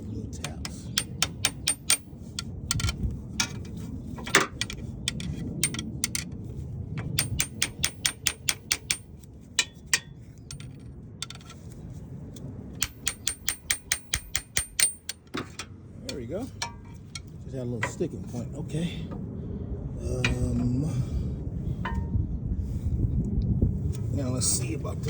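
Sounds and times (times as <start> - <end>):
low handling noise: 0.0 - 24.1.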